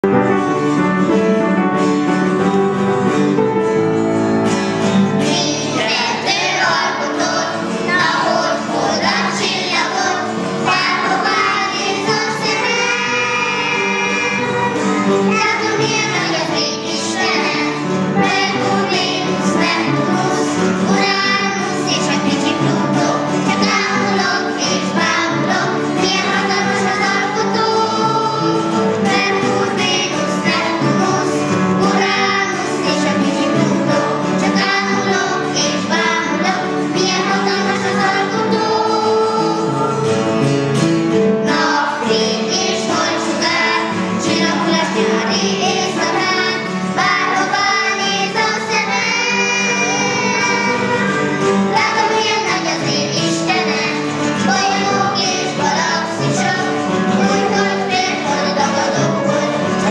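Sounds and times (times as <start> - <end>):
held backing chords: 0.0 - 59.9
child singing: 5.2 - 40.0, 41.4 - 59.9.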